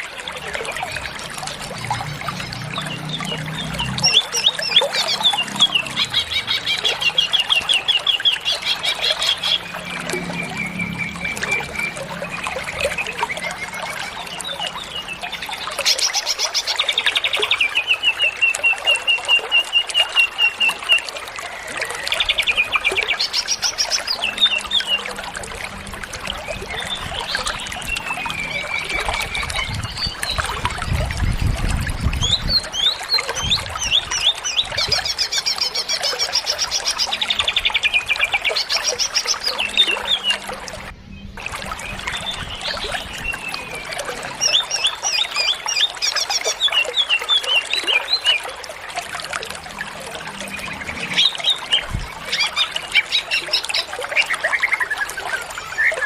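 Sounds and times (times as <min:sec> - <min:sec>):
bird singing trills and whistles: 0:02.3 - 0:25.2, 0:26.3 - 0:48.5.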